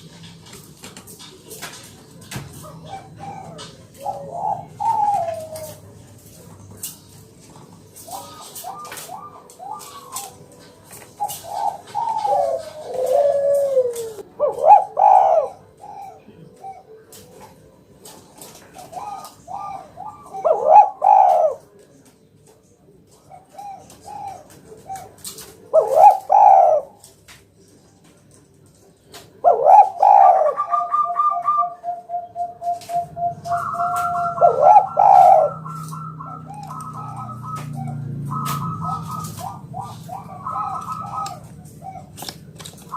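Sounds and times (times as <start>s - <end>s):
dove cooing: 0.0s - 22.1s, 23.1s - 27.2s, 28.8s - 42.9s.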